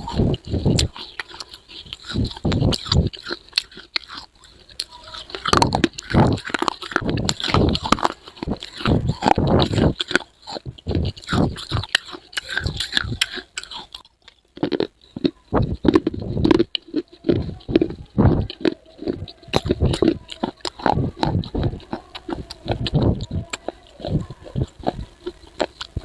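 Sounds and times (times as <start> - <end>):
chewing crunchy clay pieces: 0.0 - 26.0.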